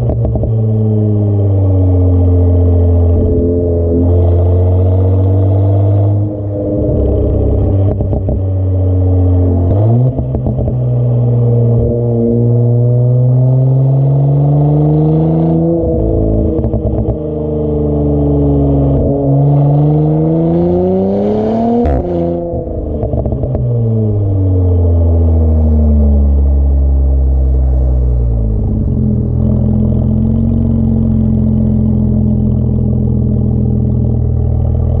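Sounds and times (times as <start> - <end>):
car engine revving through exhaust: 0.0 - 35.0.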